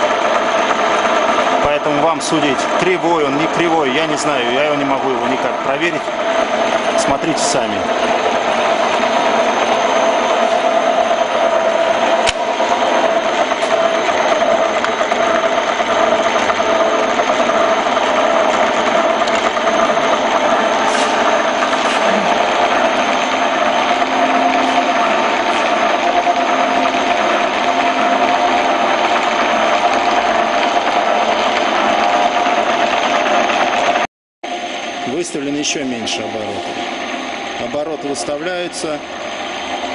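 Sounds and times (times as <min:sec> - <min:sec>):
lathe motor whirring and whining: 0:00.0 - 0:39.9.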